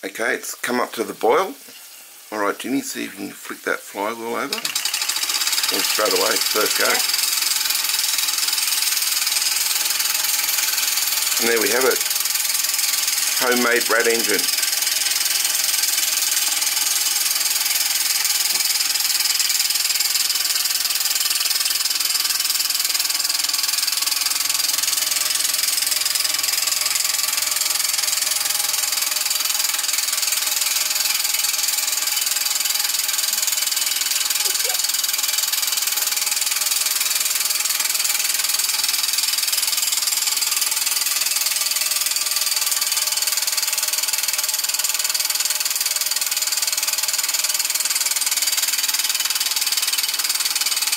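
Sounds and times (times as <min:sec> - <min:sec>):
steam hissing: 0:00.0 - 0:50.9
model steam engine running: 0:04.0 - 0:50.9.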